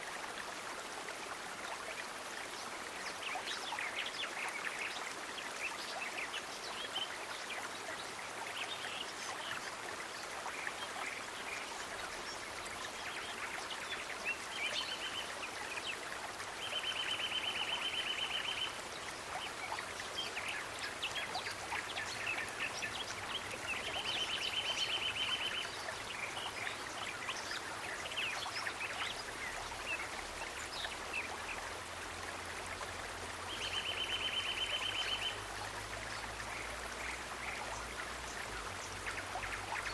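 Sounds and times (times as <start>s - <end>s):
water running like a stream: 0.0s - 39.9s.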